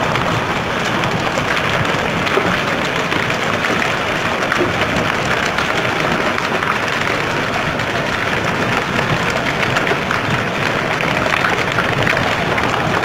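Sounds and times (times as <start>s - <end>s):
hail and rain on pavement: 0.0s - 13.0s
running water: 0.0s - 13.0s.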